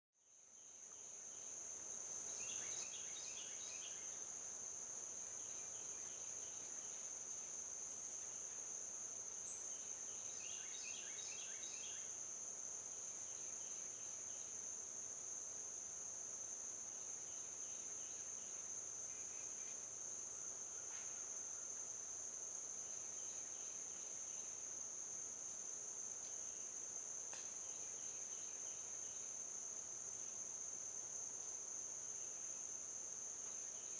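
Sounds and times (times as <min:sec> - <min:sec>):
high-pitched insect trill: 0:00.3 - 0:33.9.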